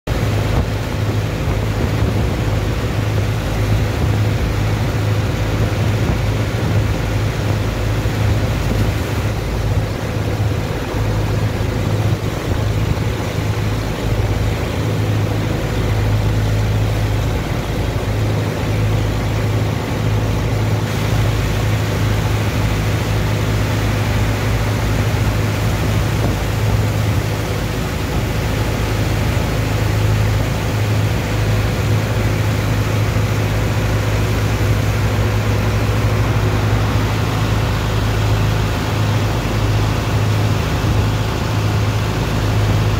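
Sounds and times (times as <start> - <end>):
engine low hum: 0.1 - 42.9
water jets splashing: 0.1 - 42.9.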